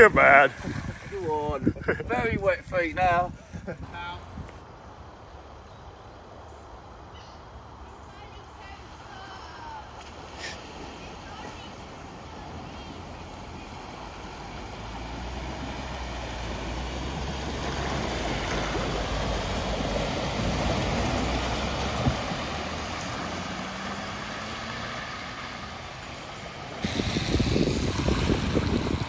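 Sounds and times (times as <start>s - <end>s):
water rushing: 0.0s - 3.2s, 8.2s - 29.0s.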